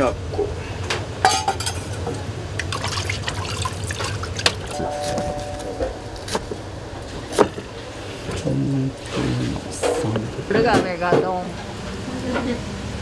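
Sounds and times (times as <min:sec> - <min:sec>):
steady low hum: 0:00.1 - 0:10.6.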